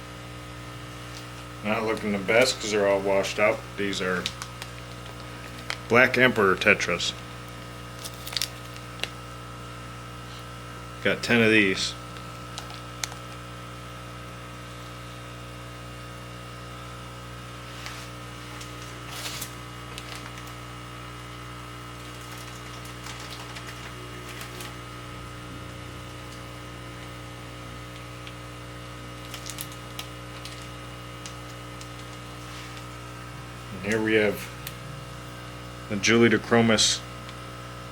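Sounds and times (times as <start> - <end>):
steady electrical hum: 0.0 - 37.9.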